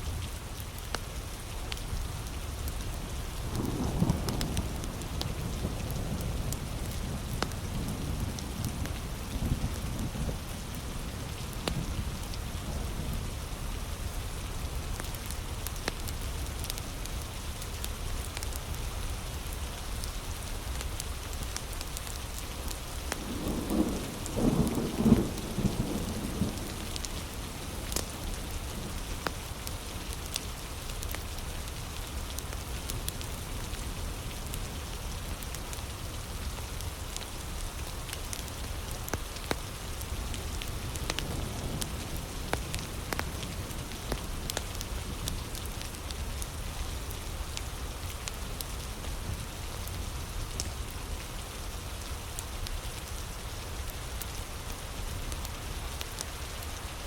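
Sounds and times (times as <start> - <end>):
wood fire crackles: 0.0 - 57.0
heavy rain falling: 0.1 - 57.0.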